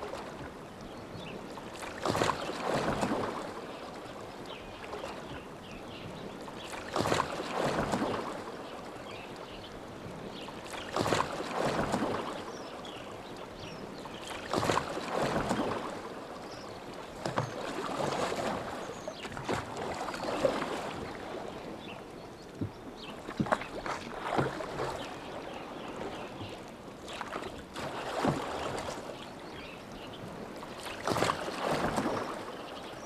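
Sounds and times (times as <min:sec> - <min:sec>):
oars splashing through water: 0:00.0 - 0:33.0
water lapping against hull: 0:00.0 - 0:33.0.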